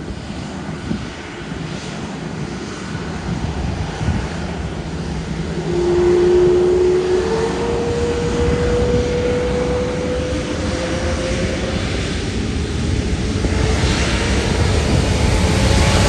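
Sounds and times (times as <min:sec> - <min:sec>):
jet engines spooling up: 0:00.0 - 0:16.0.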